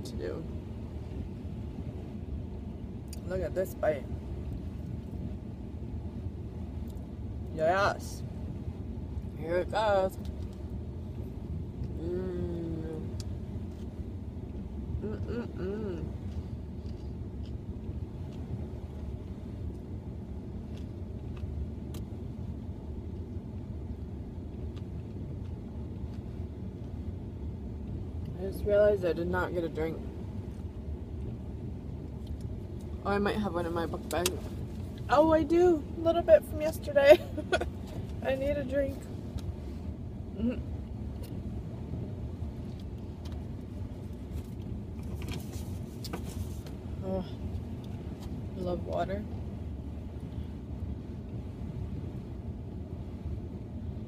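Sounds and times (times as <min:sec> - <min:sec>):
car cabin rumble: 0:00.0 - 0:54.0.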